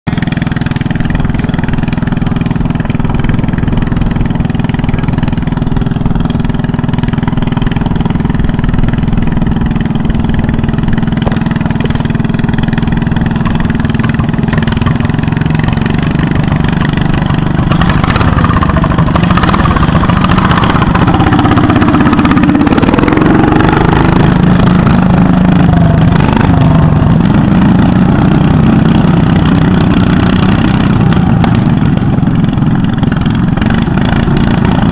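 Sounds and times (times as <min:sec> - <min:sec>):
lawn tractor engine revving: 0:00.1 - 0:34.9.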